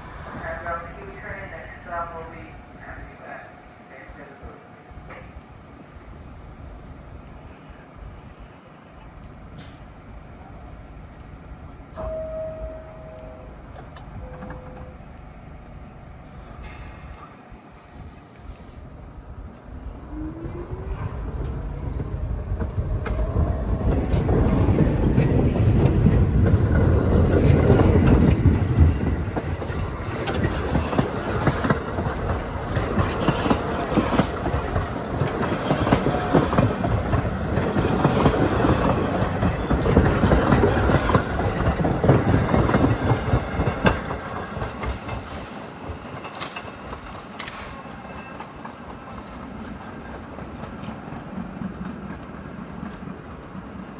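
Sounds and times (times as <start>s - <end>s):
subway train wheels clacking: 0.0s - 53.9s.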